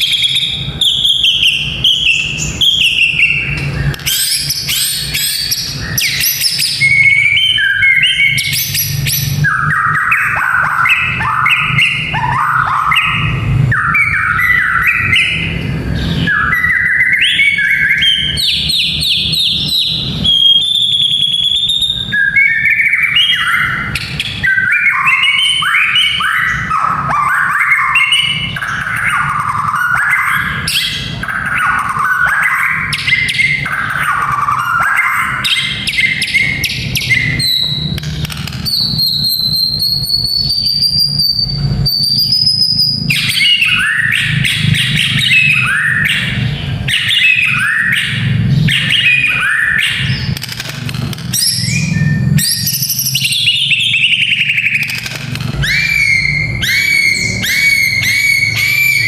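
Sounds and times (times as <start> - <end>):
bird singing whistled trills: 0.0 - 50.4, 51.3 - 59.0.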